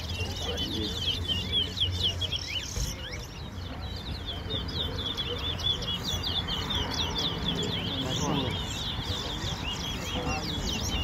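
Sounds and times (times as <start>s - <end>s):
finch singing high twittering chirps: 0.0s - 11.0s.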